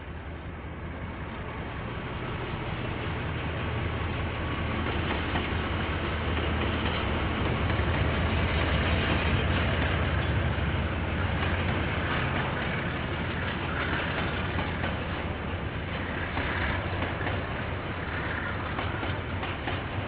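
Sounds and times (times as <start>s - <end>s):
low train engine hum: 0.0s - 20.0s
train rumbling past: 0.0s - 20.0s.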